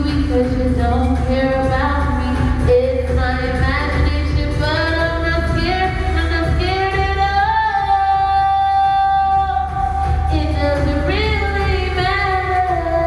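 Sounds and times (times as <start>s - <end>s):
pop backing track with deep bass: 0.0s - 13.0s.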